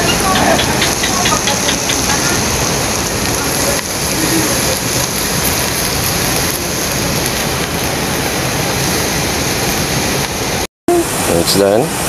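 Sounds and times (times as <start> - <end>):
skewers sizzling on charcoal grill: 0.0 - 11.9
marinade hissing on coals: 0.0 - 12.0.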